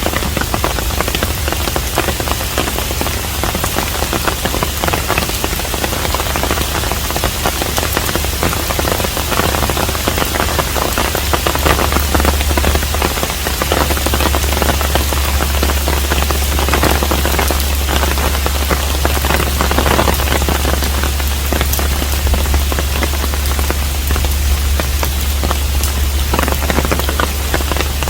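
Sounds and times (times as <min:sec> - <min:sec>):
steady low hum: 0:00.0 - 0:28.0
steady rain falling: 0:00.0 - 0:28.0.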